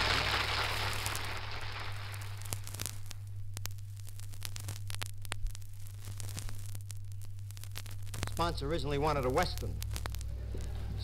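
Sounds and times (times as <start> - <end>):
record surface clicks and crackle: 0.0 - 11.0
steady low hum: 0.0 - 11.0.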